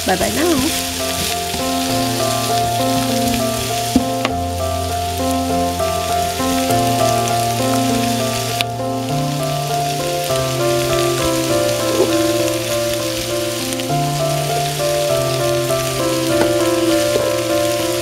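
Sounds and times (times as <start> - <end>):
food sizzling in a pan: 0.0 - 18.0
slow background music: 0.0 - 18.0.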